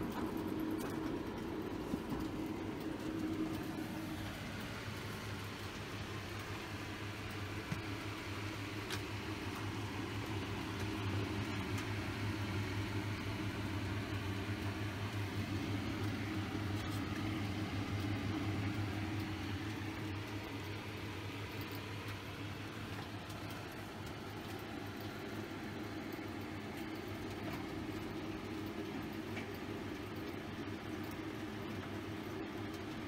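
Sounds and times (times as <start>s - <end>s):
low electrical machine hum: 0.0s - 33.0s.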